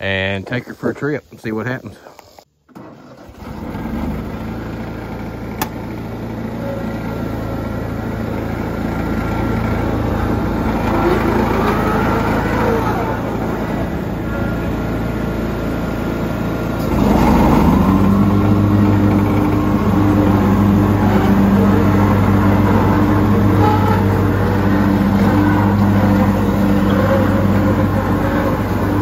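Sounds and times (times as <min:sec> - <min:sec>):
mower engine running: 0:02.7 - 0:29.0.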